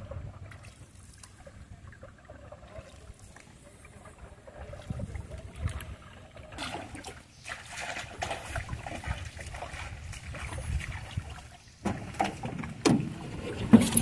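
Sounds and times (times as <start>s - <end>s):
water splashing and trickling: 0.0s - 14.0s.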